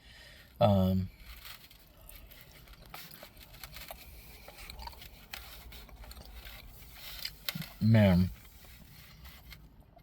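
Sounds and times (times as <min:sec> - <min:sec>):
low steady hum: 0:00.0 - 0:10.0
eating clicks and scrapes: 0:01.2 - 0:10.0.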